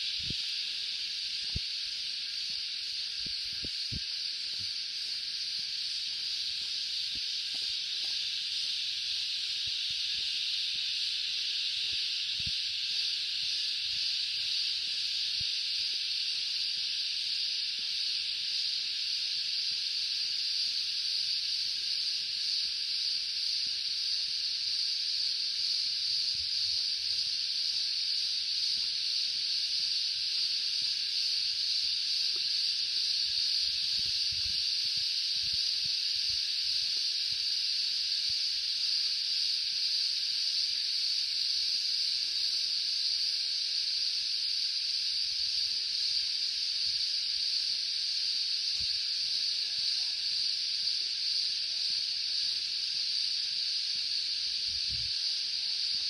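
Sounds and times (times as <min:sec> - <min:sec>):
cicadas droning: 0:00.0 - 0:56.0.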